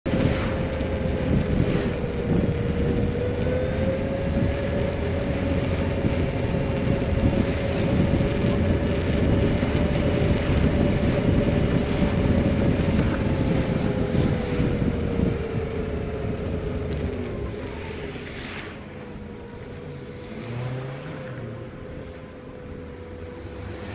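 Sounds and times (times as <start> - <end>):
vehicle engine humming: 0.0 - 23.9
wind rumbling on microphone: 0.0 - 23.9.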